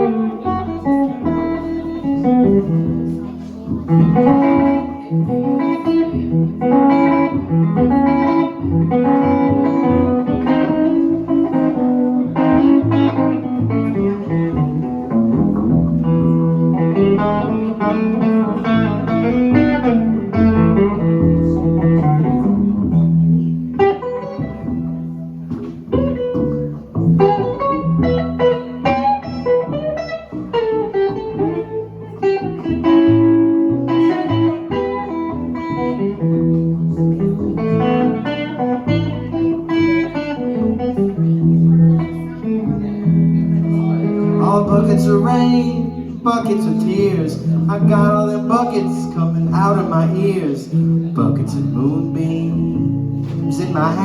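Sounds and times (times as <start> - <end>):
guitar picking and strumming: 0.0 - 54.0
plucked upright bass: 0.0 - 54.0.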